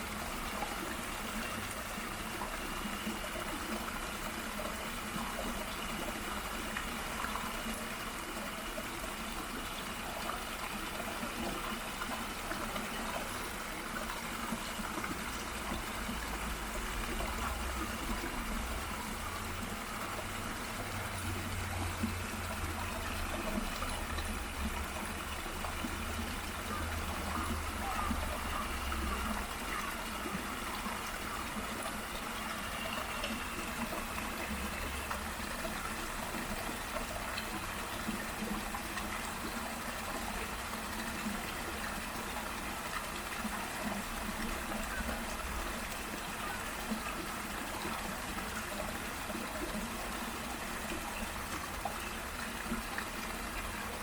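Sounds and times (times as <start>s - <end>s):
waterfall and stream rushing: 0.0s - 54.0s.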